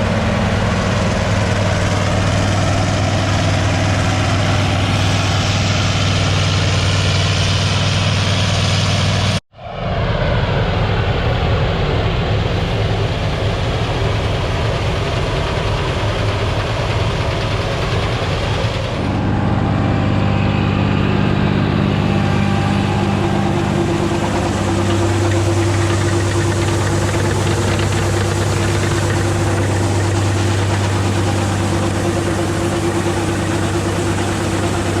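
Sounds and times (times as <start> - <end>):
harvester diesel engine humming: 0.0 - 9.4, 11.8 - 35.0.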